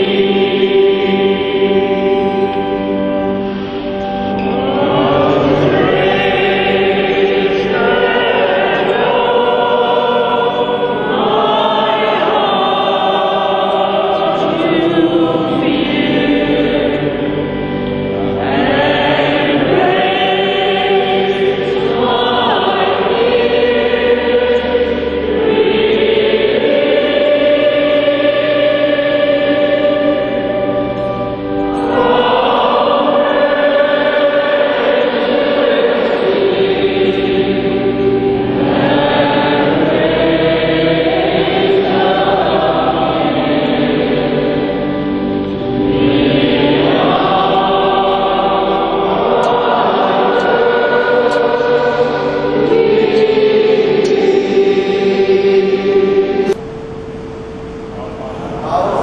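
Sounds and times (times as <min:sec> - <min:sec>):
congregation and choir singing hymn: 0:00.0 - 0:59.0.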